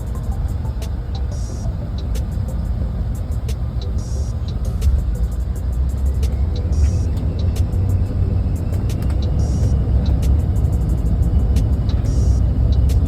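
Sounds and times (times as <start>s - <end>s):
music with ticking beat: 0.0s - 13.0s
road vehicle rumble: 0.0s - 13.0s.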